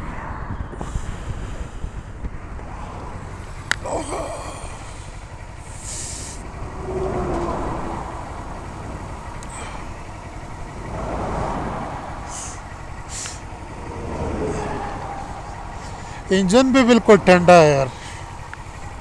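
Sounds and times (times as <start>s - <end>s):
hissing wind gusts: 0.0s - 19.0s
motorcycle riding on highway: 0.0s - 19.0s
wind buffeting microphone: 0.0s - 19.0s.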